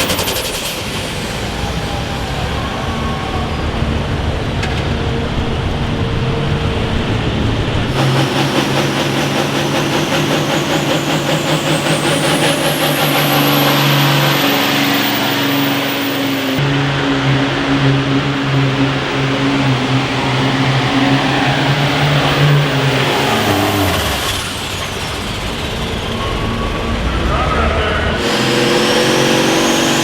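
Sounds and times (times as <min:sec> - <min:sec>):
engine running hard: 0:00.0 - 0:30.0
high whine rising in pitch: 0:00.0 - 0:30.0.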